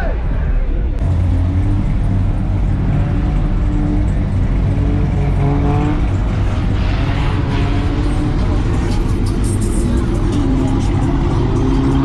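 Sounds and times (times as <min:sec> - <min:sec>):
car engine running and revving: 0:01.0 - 0:12.0.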